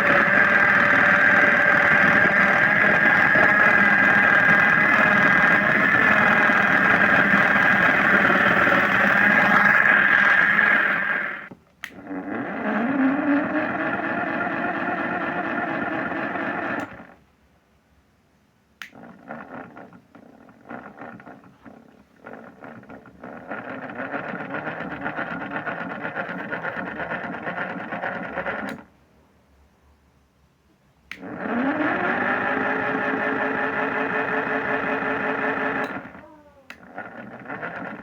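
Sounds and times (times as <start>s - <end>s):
washing machine motor whine: 0.0s - 17.2s, 18.8s - 28.9s, 31.1s - 38.0s.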